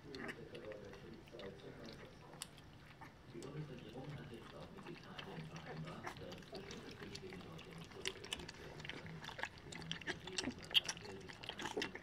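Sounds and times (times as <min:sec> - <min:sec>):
puppies lapping and slurping: 0:00.0 - 0:12.0.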